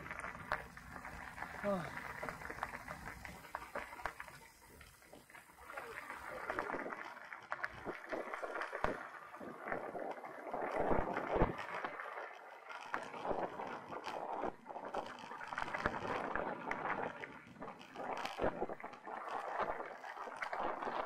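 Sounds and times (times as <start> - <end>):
bike clicks and rattles: 0.0 - 19.0
bike tyres on dirt: 0.0 - 21.0
wind buffeting microphone: 0.0 - 21.0.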